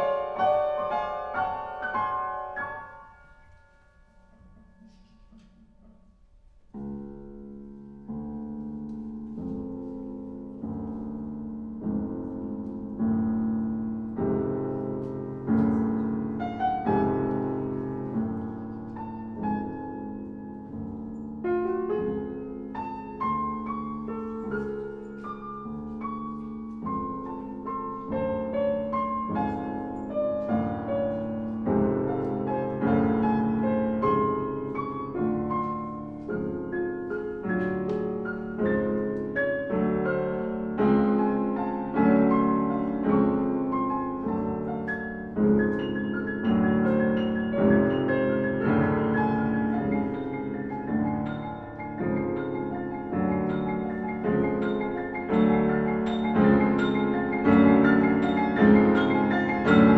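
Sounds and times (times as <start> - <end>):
classical piano music: 0.0 - 59.9.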